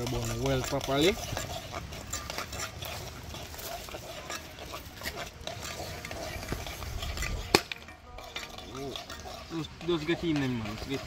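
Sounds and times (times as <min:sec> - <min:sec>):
spoon scraping a frying pan: 0:00.0 - 0:11.0.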